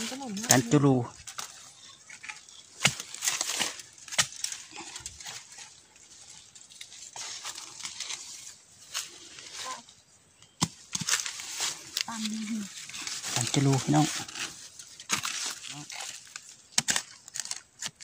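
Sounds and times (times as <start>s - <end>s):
leaves and twigs rustling: 0.0s - 18.0s.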